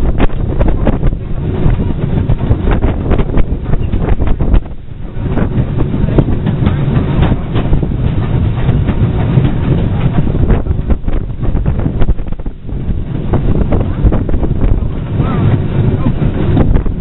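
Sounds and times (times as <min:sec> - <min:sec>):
steam train running rumble: 0:00.0 - 0:17.0
wheels clattering on track: 0:00.0 - 0:17.0.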